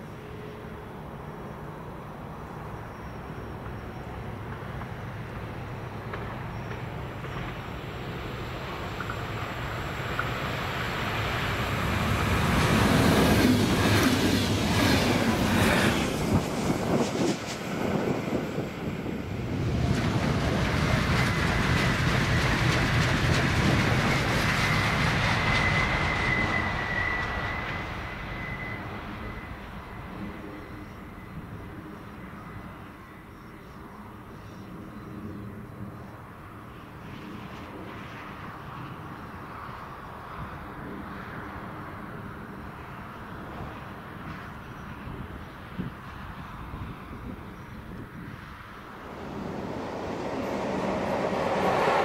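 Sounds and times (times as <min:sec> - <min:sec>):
train passing: 0:00.0 - 0:34.6, 0:37.5 - 0:52.0.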